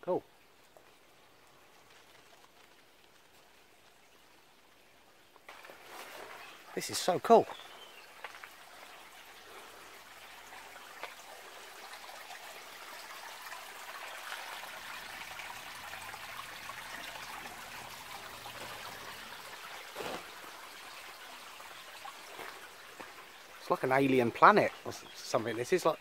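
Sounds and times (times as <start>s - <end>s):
stream trickling over stones: 0.0s - 26.0s.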